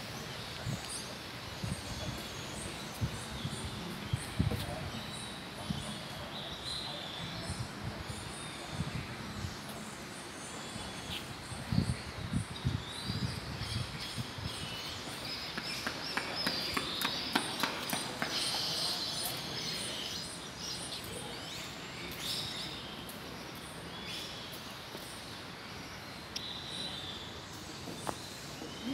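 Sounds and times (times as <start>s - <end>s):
birds calling and chirping: 0.0s - 28.9s.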